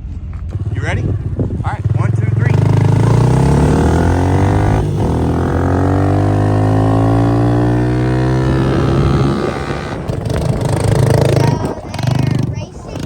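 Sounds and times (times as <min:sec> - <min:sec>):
vehicle pulling away: 0:00.0 - 0:13.0.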